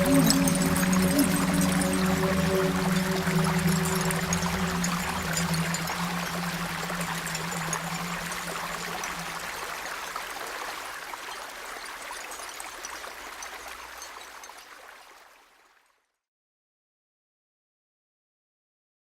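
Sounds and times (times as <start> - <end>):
stream babbling over stones: 0.0 - 15.8.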